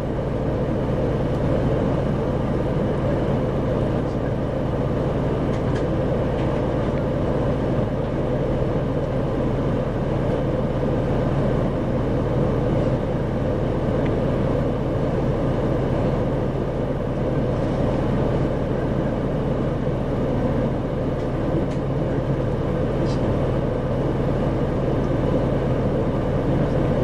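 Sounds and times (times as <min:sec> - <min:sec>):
bus diesel engine running: 0:00.0 - 0:27.0
road and cabin noise: 0:00.0 - 0:27.0.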